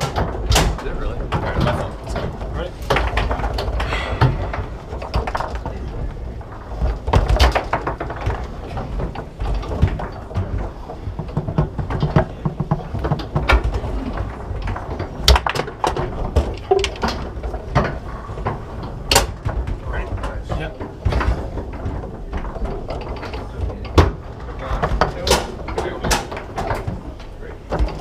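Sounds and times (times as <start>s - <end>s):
foosball ball knocks and clacks: 0.0s - 3.8s, 6.5s - 28.0s.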